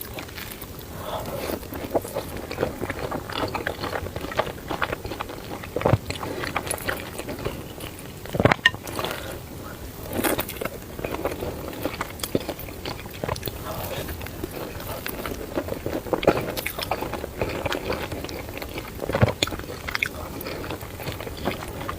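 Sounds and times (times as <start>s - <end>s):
chewing and wet mouth clicks: 0.1s - 9.2s, 10.2s - 21.9s.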